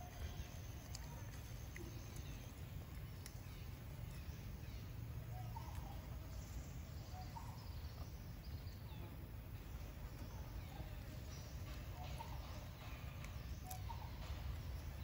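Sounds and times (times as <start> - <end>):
faint bird chirps: 0.0 - 9.2, 9.8 - 15.0.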